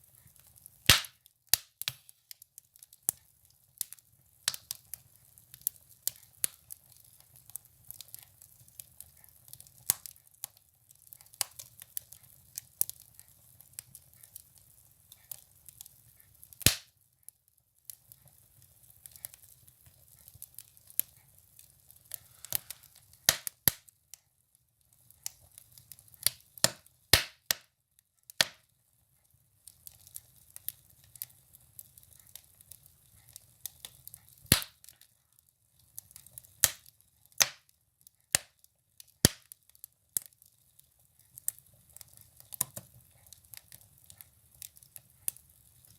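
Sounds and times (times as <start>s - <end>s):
firewood crackling and popping: 0.0s - 45.9s.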